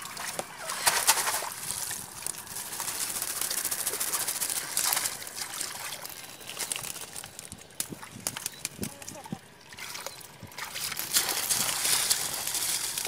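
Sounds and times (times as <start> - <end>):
eels and fish flapping in crate: 0.0 - 13.0.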